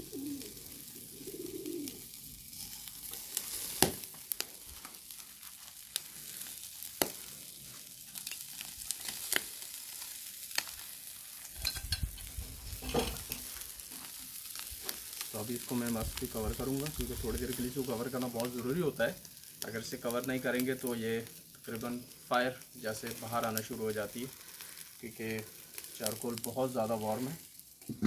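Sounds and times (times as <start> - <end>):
chicken sizzling on a grill: 0.0 - 28.0.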